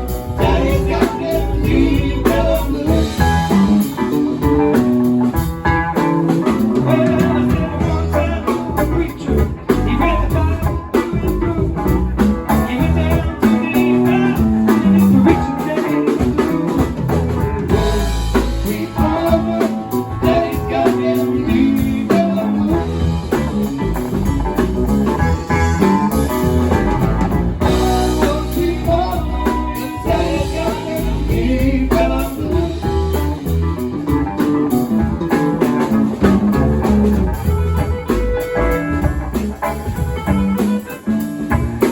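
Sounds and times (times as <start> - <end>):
blues band playing: 0.0 - 41.9.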